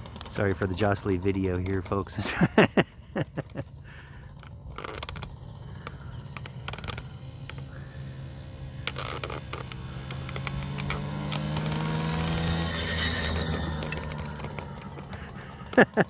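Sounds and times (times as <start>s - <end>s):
moped engine running: 0.0s - 16.0s.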